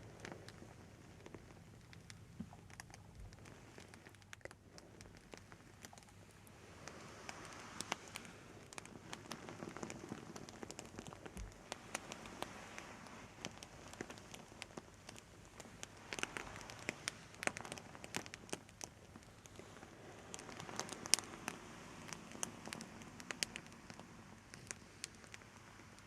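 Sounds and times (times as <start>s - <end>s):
crackling clicks and pops: 0.0s - 26.0s
soft hiss: 0.0s - 26.0s.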